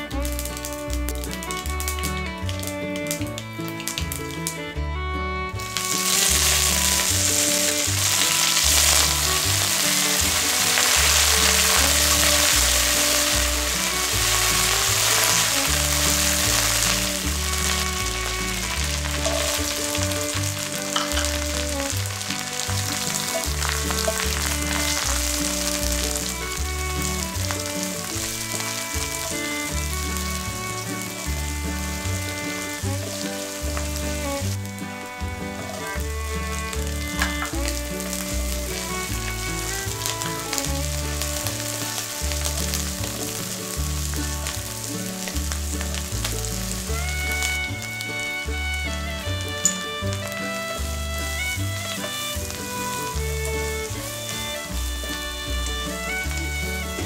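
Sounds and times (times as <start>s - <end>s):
leaves sizzling in hot oil: 0.0s - 3.2s, 5.6s - 35.0s, 35.6s - 57.0s
background music with bass: 0.0s - 57.0s
shallots stirred in wok: 5.6s - 57.0s.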